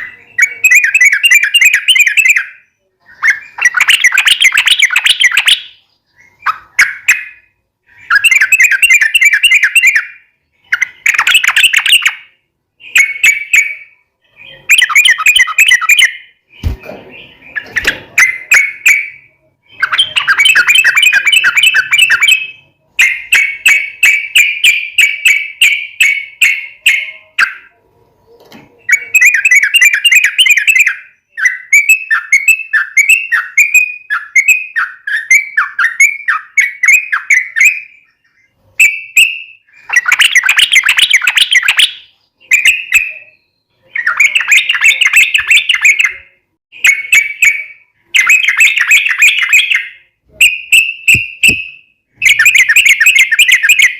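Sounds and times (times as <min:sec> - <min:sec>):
bird singing rapid chattering phrases: 0:00.0 - 0:27.8, 0:28.7 - 0:53.9.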